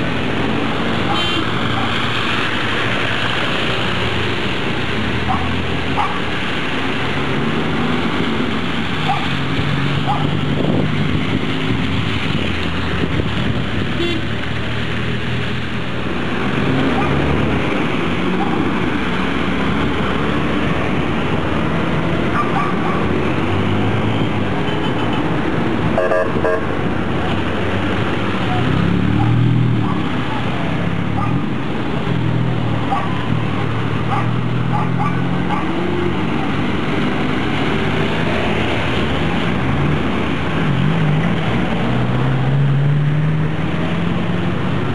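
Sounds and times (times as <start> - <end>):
motorbike and car engines: 0.0 - 44.9
rain: 0.0 - 44.9
tyres hissing on wet road: 0.0 - 44.9.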